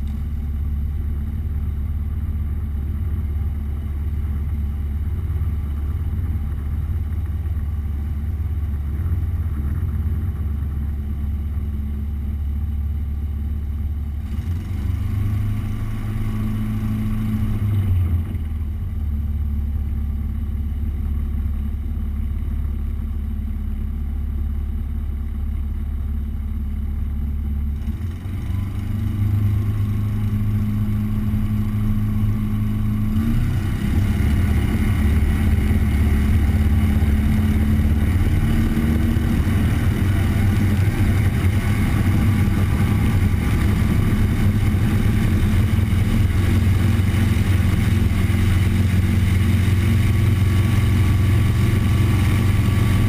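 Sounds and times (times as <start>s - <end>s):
floatplane propeller engine drone: 0.0s - 53.0s.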